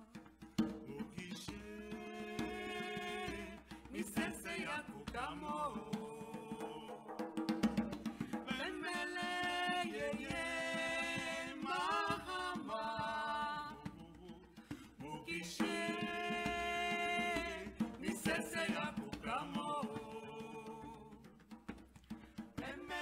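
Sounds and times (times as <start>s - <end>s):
djembe hand drum strokes: 0.0s - 23.0s.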